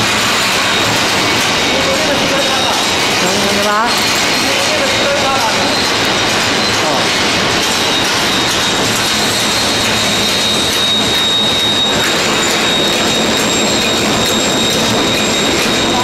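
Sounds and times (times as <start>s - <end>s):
packaging machine clatter: 0.0s - 16.0s
thin high whine: 0.0s - 16.0s.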